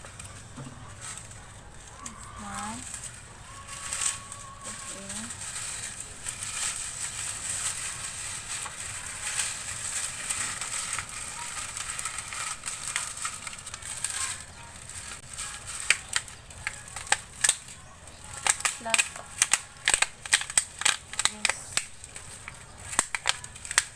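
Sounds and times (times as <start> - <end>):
plastic bottles crinkling: 0.0 - 23.9.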